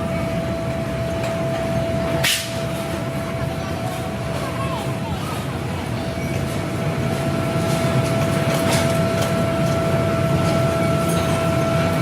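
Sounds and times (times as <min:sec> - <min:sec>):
constant machine whine: 0:00.0 - 0:12.0
factory machinery rumble: 0:00.0 - 0:12.0.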